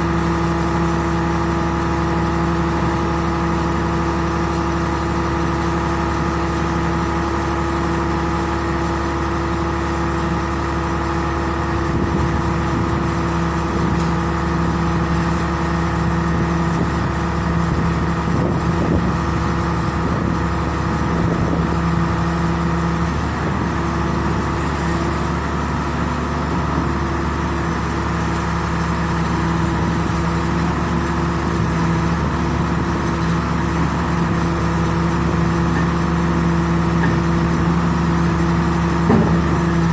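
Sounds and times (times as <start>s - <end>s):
baler machine humming: 0.0s - 39.9s.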